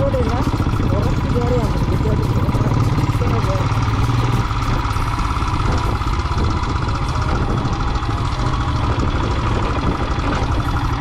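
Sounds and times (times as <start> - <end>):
motorcycle engine thumping: 0.0 - 11.0.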